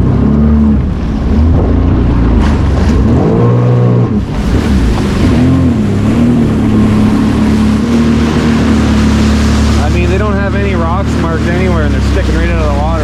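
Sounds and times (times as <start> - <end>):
watercraft engine running: 0.0 - 13.0
wind buffeting microphone: 0.0 - 13.0.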